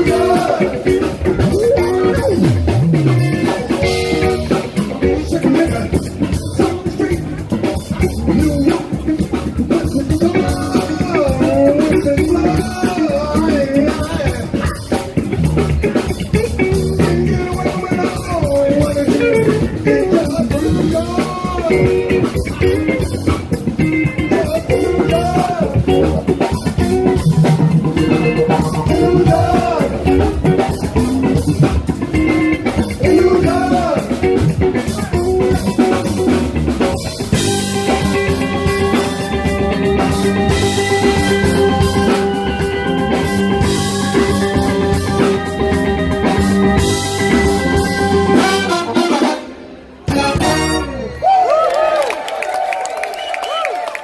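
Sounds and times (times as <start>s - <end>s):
drum kit beat: 0.0s - 50.9s
electric bass: 0.0s - 51.3s
live band playing: 0.0s - 54.0s.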